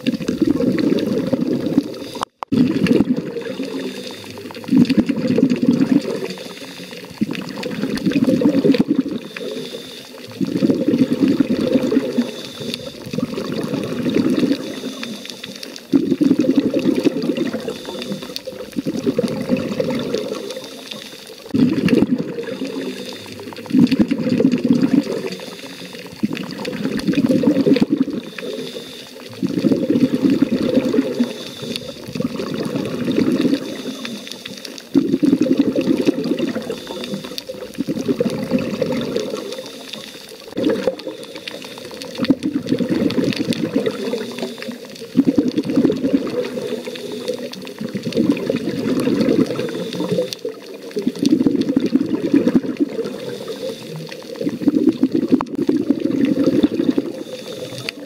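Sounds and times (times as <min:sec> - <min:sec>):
exhaled bubbles underwater: 0:00.0 - 0:58.0
diver breathing through regulator: 0:00.8 - 0:50.5, 0:52.4 - 0:54.8, 0:56.1 - 0:58.0.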